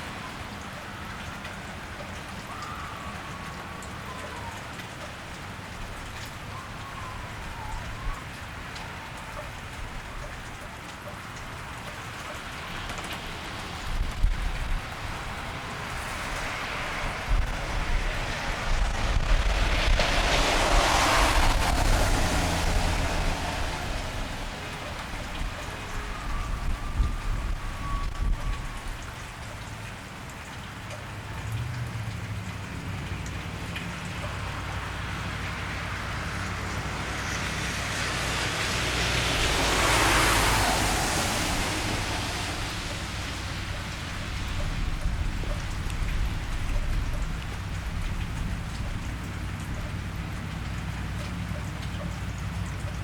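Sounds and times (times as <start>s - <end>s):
low traffic rumble: 0.0s - 53.0s
steady rain: 0.0s - 53.0s
tyre hiss on wet street: 0.0s - 53.0s.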